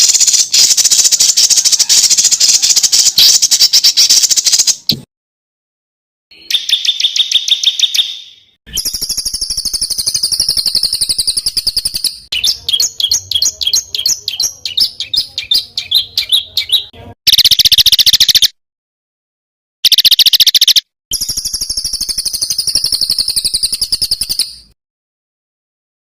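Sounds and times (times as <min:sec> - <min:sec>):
high rapid bird trill: 0:00.0 - 0:04.9, 0:06.3 - 0:18.6, 0:19.8 - 0:24.8
songbirds singing: 0:00.0 - 0:04.9, 0:06.3 - 0:18.5, 0:19.8 - 0:24.7
bird chirps: 0:00.0 - 0:05.0, 0:06.3 - 0:18.6, 0:19.8 - 0:24.8.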